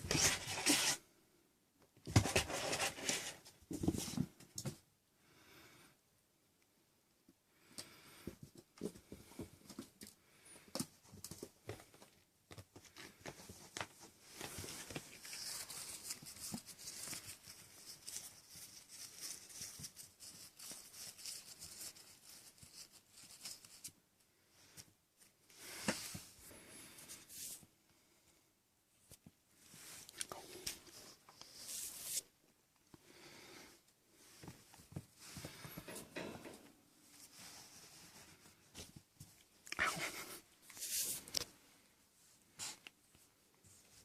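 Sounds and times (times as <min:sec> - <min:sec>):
kittens scuffling and rustling: 0:00.0 - 0:01.2, 0:01.9 - 0:04.9, 0:07.8 - 0:44.0.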